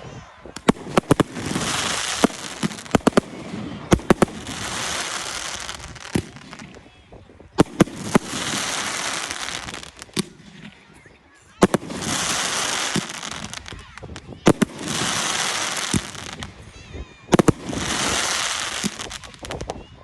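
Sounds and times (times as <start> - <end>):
firework crackling hiss: 0.6 - 6.9, 7.6 - 10.6, 11.6 - 16.6, 17.3 - 19.8.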